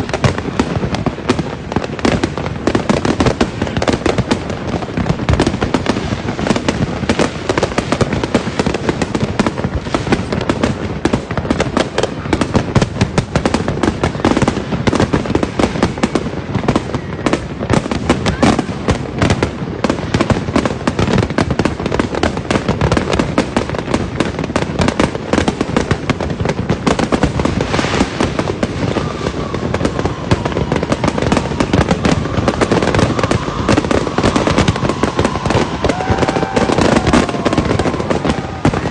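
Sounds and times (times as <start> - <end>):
fireworks popping and crackling: 0.0 - 38.9.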